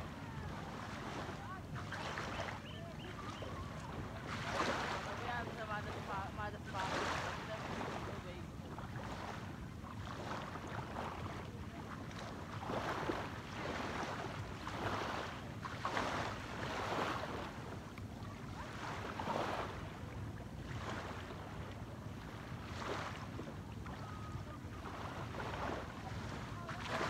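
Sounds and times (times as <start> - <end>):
sea waves washing in: 0.0 - 27.0.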